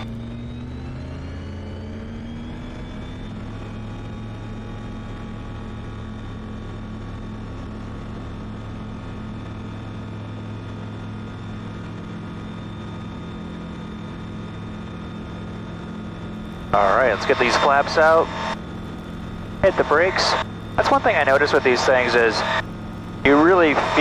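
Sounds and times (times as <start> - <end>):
light aircraft engine at full power: 0.0 - 24.0.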